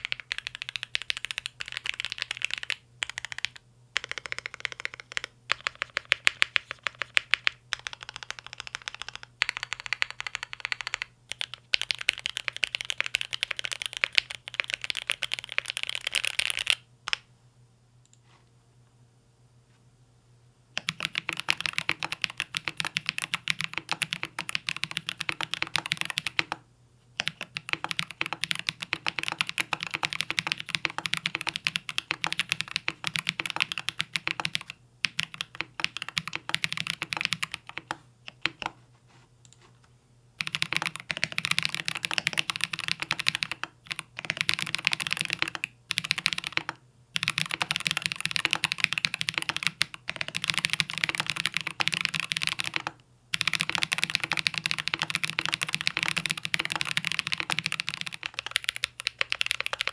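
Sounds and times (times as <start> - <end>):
fast typing on mechanical keyboard: 0.0 - 17.2, 20.8 - 26.6, 27.2 - 38.8, 40.4 - 59.9.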